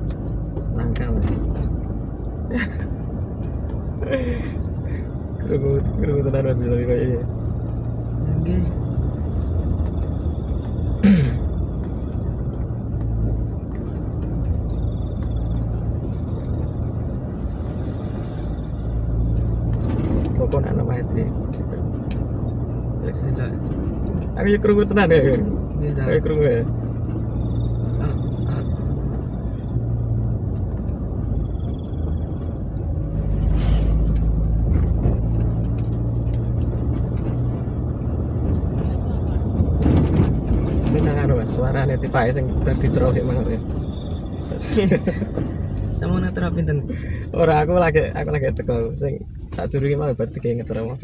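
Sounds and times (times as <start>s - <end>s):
engine and road rumble: 0.0s - 51.0s.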